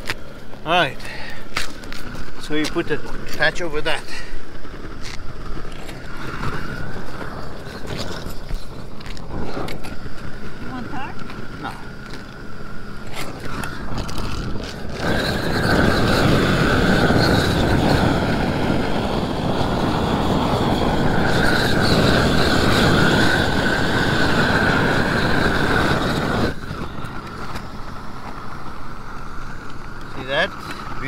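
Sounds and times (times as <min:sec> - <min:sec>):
roofing torch flame rushing: 0:00.0 - 0:31.0.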